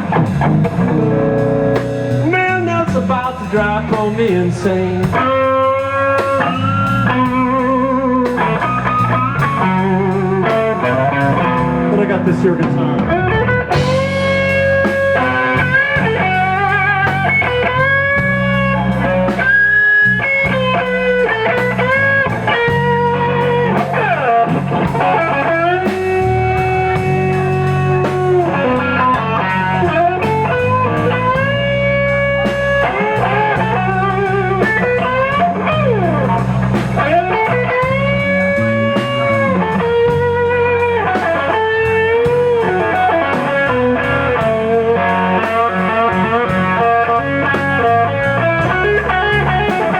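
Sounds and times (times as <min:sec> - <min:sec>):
bass guitar: 0:00.0 - 0:49.9
drums: 0:00.0 - 0:49.9
electric blues guitar solo: 0:00.0 - 0:49.9.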